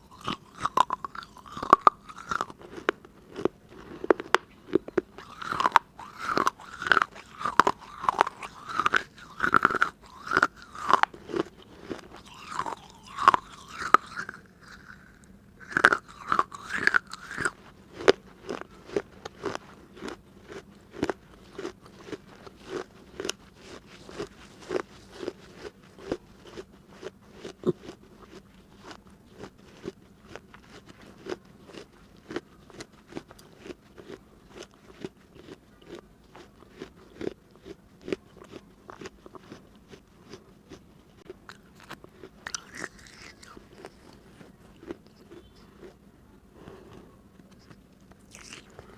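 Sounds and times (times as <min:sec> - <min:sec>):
teeth crunching clay: 0:00.0 - 0:46.0, 0:47.4 - 0:48.9.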